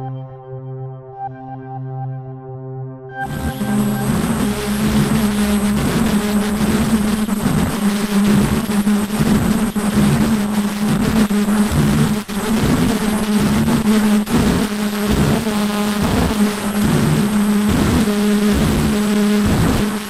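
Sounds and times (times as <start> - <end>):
machine buzzing hum: 3.2 - 20.0.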